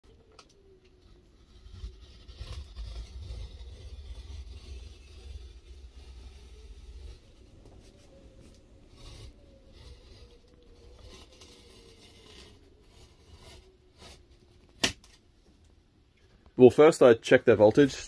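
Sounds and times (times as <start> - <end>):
knife blade scraping plastic: 0.1 - 15.2.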